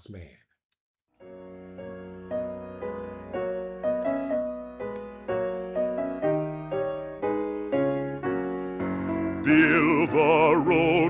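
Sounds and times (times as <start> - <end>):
piano playing slow chords: 1.2 - 11.0.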